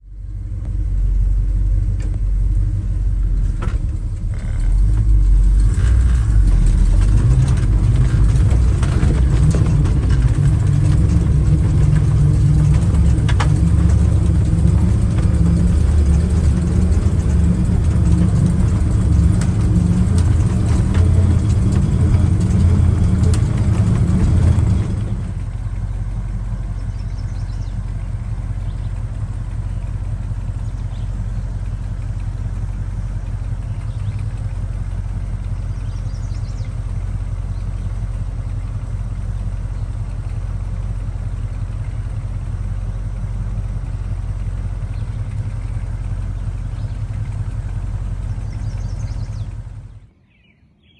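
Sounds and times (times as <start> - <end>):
truck engine running rough: 0.0 - 50.2.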